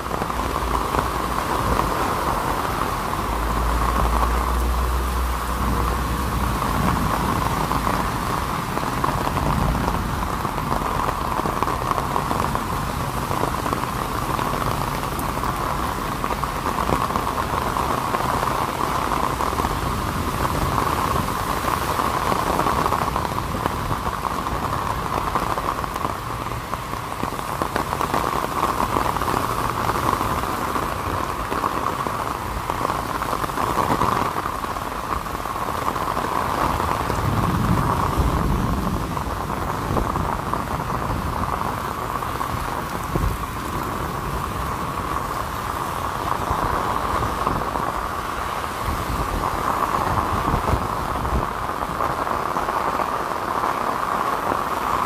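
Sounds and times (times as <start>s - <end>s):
heavy rain on umbrella and pavement: 0.0s - 55.0s.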